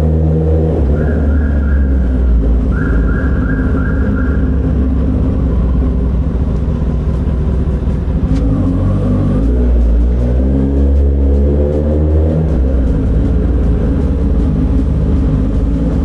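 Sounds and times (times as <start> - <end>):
motorcycle engine deep rumble: 0.0 - 16.0.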